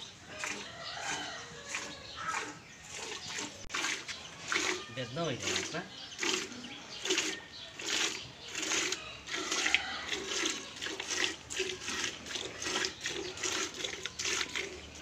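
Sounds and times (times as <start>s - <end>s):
milk squirting into a vessel: 0.0s - 15.0s.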